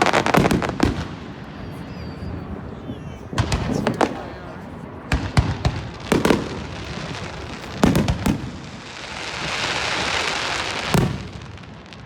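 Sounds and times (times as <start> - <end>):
fireworks bangs: 0.0 - 12.0
fireworks hiss: 0.0 - 12.0.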